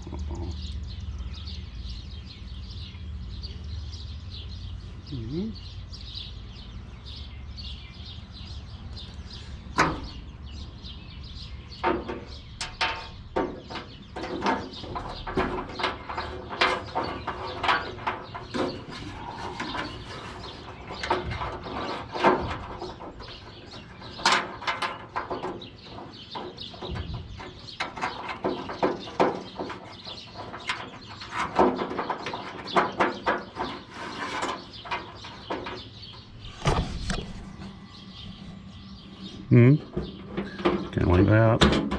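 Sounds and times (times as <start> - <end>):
faint birds chirping: 0.0 - 41.9.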